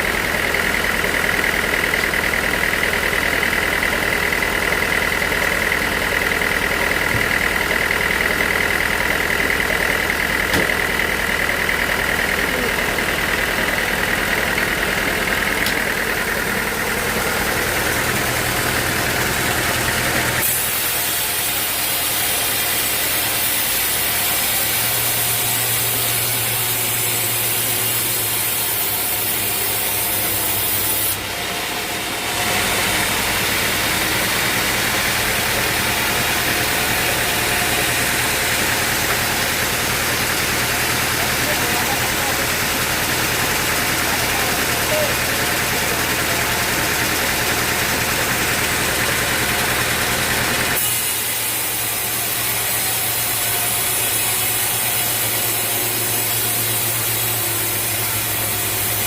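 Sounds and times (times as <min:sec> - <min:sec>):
band sawmill sawing log: 0:00.0 - 0:59.0.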